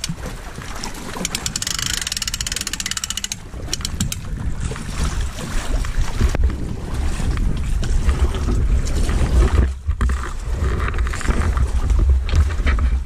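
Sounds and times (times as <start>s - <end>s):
water splashing around wading legs: 0.0s - 13.0s
wind rumbling on microphone: 0.0s - 13.0s.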